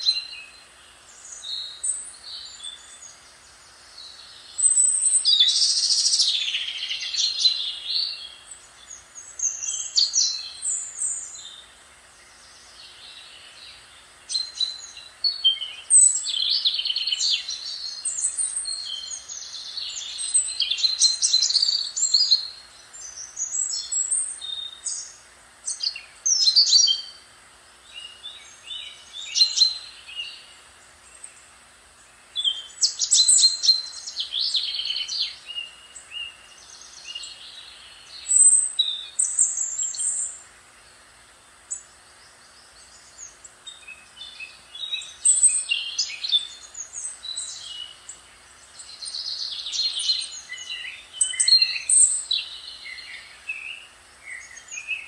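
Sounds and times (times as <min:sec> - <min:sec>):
faint steady hiss: 0:00.0 - 0:55.0
songbirds singing: 0:00.0 - 0:55.0.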